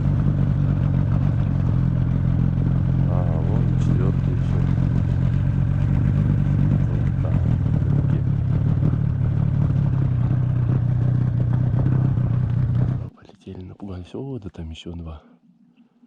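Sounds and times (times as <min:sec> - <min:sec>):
outboard motor running: 0:00.0 - 0:13.1.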